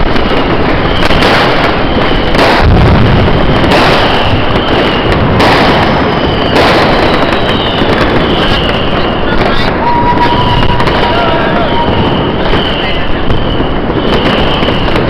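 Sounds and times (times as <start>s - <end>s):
fireworks crackling and banging: 0.0s - 15.0s
rockets whistling: 0.0s - 15.0s
sharp firework blasts: 0.0s - 15.0s.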